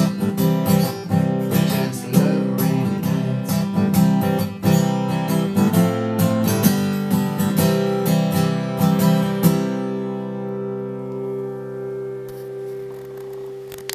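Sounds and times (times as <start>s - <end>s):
acoustic guitar strumming chords: 0.0s - 13.9s.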